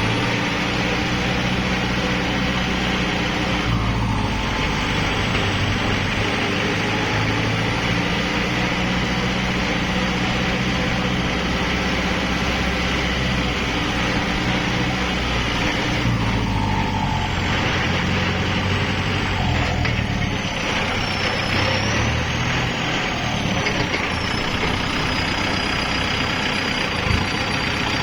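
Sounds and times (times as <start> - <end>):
tractor diesel engine: 0.0 - 28.0.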